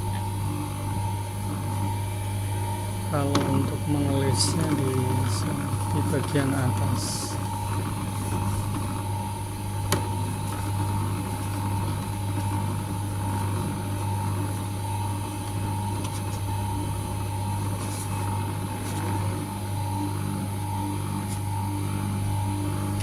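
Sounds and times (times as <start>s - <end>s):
machine motor humming: 0.0s - 23.0s.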